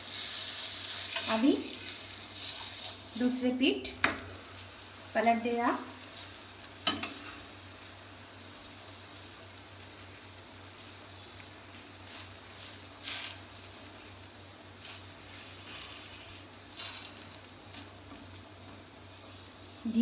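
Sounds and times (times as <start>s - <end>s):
bread sizzling on griddle: 0.0s - 20.0s.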